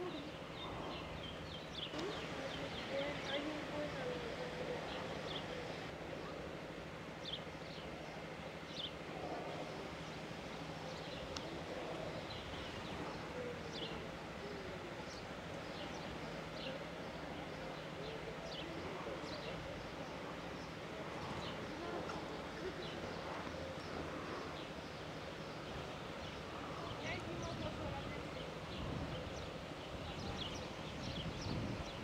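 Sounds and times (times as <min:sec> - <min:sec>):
birds chirping: 0:00.0 - 0:32.0
low steady hum: 0:00.0 - 0:32.0.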